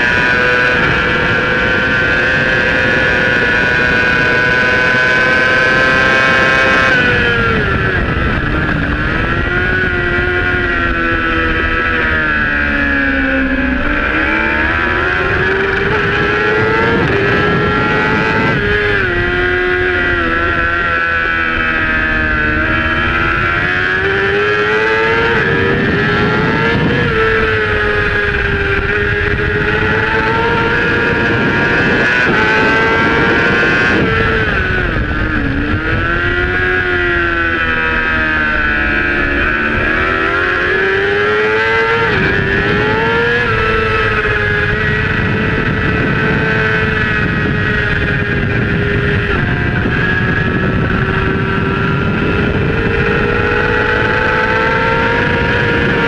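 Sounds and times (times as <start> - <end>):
racing motorcycle engine revving: 0.0 - 56.0.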